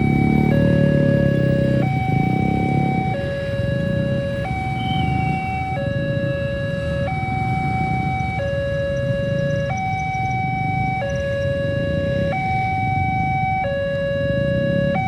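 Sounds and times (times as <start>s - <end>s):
two-tone level crossing siren: 0.0s - 15.0s.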